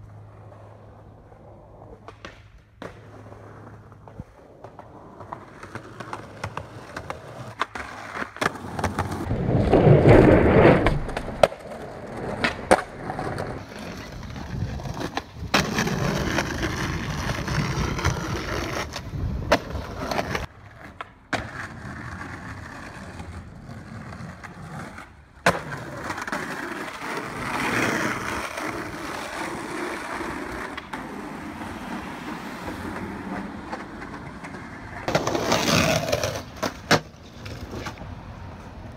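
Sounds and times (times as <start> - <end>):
skateboard clacks: 0.0 - 38.9
skateboard wheels rolling on concrete: 0.0 - 38.9.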